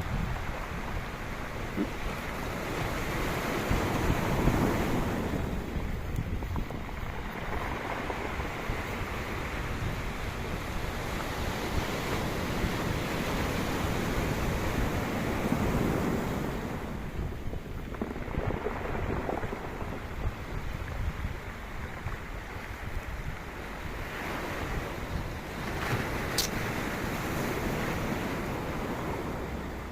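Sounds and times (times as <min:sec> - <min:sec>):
sea waves washing ashore: 0:00.0 - 0:29.9
wind buffeting microphone: 0:00.0 - 0:29.9.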